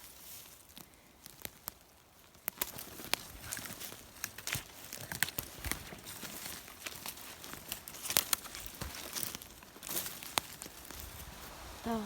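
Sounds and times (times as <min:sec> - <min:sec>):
twigs snapping: 0:00.0 - 0:11.2
dry leaves rustling underfoot: 0:00.0 - 0:12.0.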